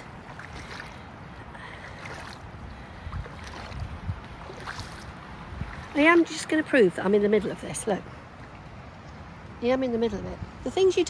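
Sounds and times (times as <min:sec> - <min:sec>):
boots wading through water: 0:00.0 - 0:09.5.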